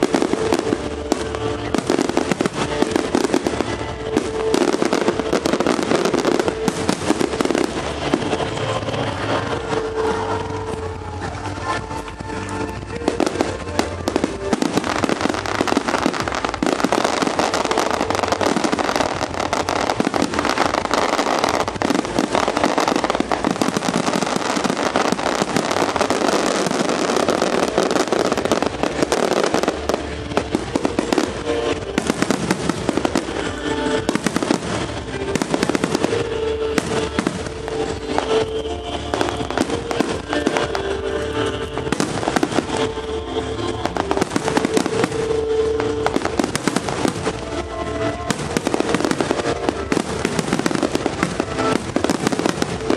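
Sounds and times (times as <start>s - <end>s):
fireworks bursting and crackling: 0.0s - 52.9s
music playing: 0.0s - 52.9s.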